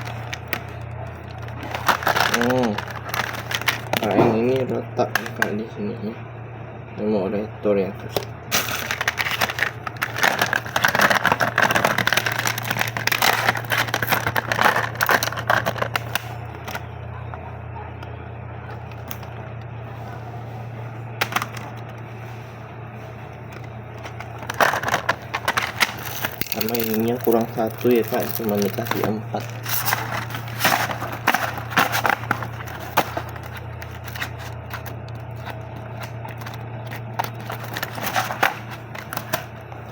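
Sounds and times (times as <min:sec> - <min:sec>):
plastic packaging crinkling: 0:00.0 - 0:05.6, 0:08.1 - 0:17.4, 0:18.6 - 0:19.4, 0:21.1 - 0:22.1, 0:23.4 - 0:39.9
low hum: 0:00.0 - 0:39.9.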